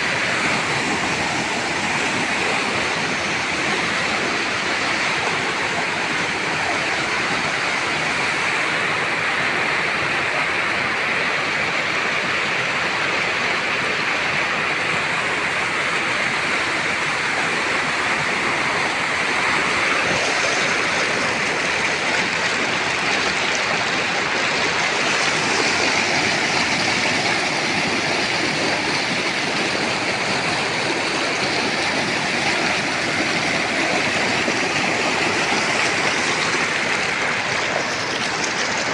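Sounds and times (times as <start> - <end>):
rushing stream water: 0.0 - 38.9.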